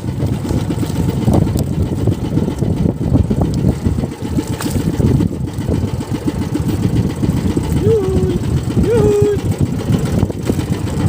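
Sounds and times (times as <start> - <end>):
small boat engine idling: 0.0 - 11.0.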